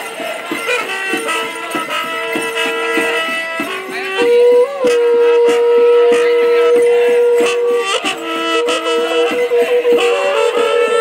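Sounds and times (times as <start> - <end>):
drum beating steadily: 0.0 - 11.0
horn trumpets blown: 0.0 - 11.0.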